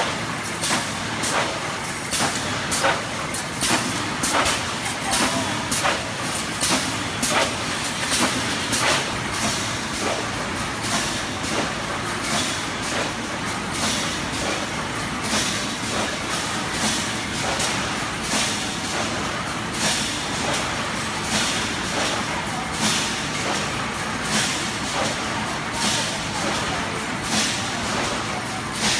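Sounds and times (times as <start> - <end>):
welding machine running: 0.0 - 28.9.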